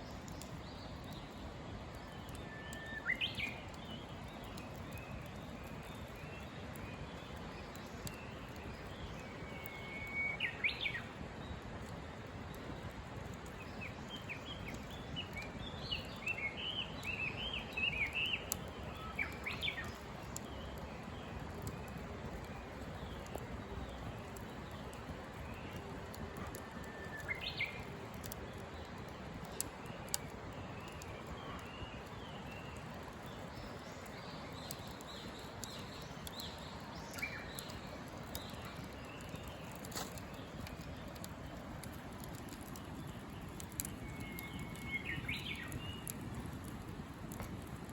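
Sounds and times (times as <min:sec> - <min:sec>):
birds chirping: 0:00.0 - 0:47.8
campfire crackling: 0:00.0 - 0:47.9.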